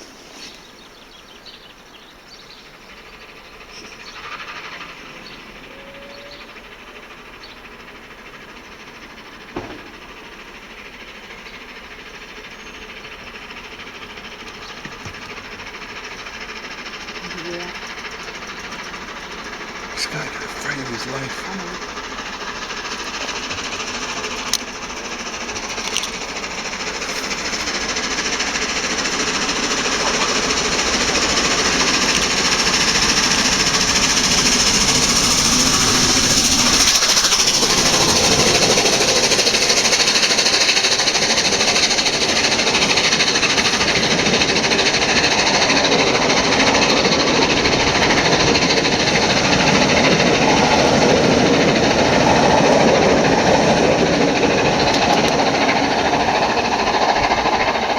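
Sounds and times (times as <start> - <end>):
steam locomotive exhaust beat: 0.0 - 57.9
train clatter: 0.0 - 57.9.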